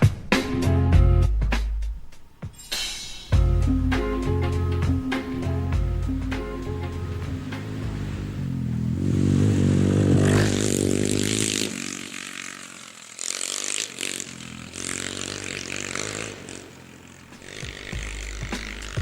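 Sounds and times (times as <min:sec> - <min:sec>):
motorcycle engine revving: 0:03.4 - 0:19.0.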